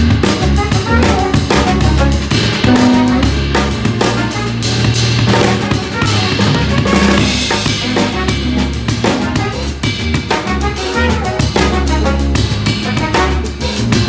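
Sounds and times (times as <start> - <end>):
cymbals: 0.0 - 14.0
drum kit played with sticks: 0.0 - 14.0
live band music: 0.0 - 14.0.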